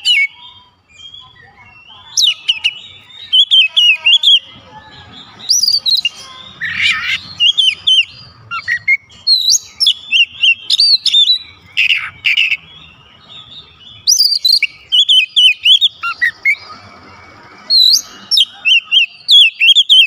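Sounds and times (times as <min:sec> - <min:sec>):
bird singing whistled notes: 0:00.0 - 0:16.8, 0:17.6 - 0:20.0.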